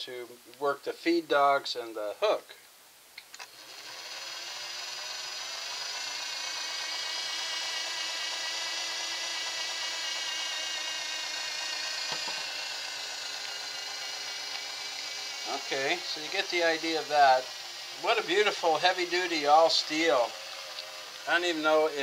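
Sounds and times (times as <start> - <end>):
sewing machine motor humming: 3.4 - 22.0.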